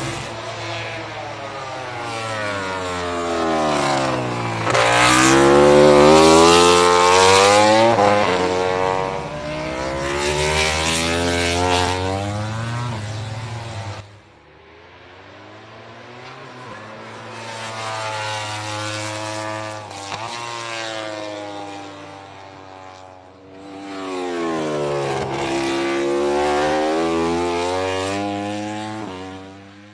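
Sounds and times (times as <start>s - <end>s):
race motorcycles passing at speed: 0.0s - 29.9s.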